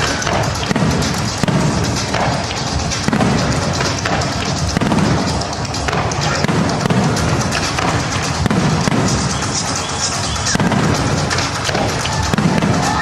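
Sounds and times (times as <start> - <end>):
crowd voices: 0.0 - 13.0
fireworks bursting and crackling: 0.0 - 13.0
music: 0.0 - 13.0.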